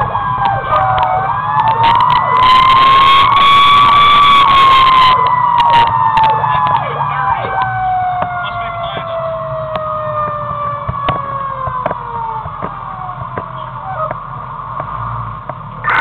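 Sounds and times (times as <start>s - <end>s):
fire engine siren winding down: 0.0s - 14.2s
truck engine rumble: 0.0s - 16.0s.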